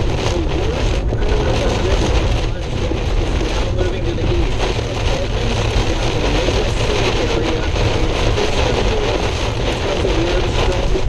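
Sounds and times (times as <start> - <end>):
car interior road and engine noise: 0.0 - 11.0
heavy rain on car: 0.0 - 11.0.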